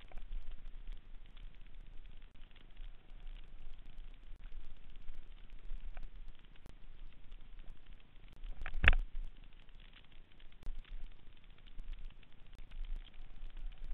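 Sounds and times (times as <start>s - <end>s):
small clicks and rattles: 0.0s - 13.9s.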